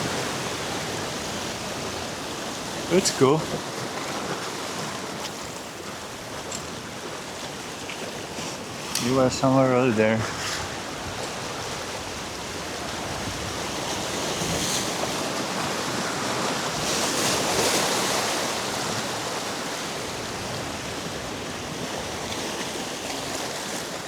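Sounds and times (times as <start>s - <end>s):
sea surf washing: 0.0s - 24.0s.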